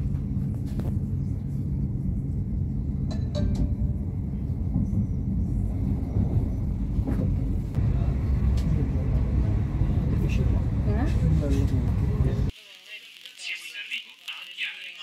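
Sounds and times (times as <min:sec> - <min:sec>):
train wheels rumbling on rails: 0:00.0 - 0:12.5.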